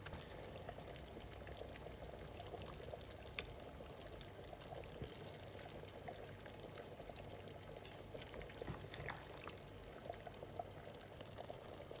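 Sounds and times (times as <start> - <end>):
liquid bubbling with pops: 0.0 - 12.0.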